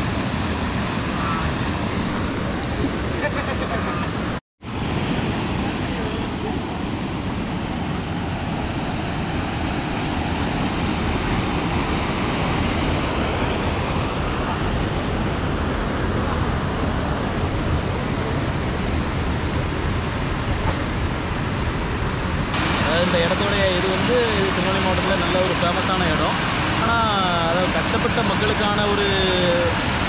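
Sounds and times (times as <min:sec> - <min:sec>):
water rushing over a weir: 0:00.0 - 0:30.0.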